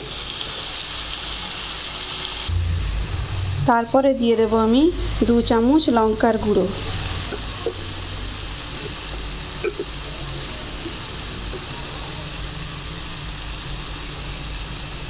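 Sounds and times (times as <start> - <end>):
onions frying in oil sizzling: 0.0 - 15.0.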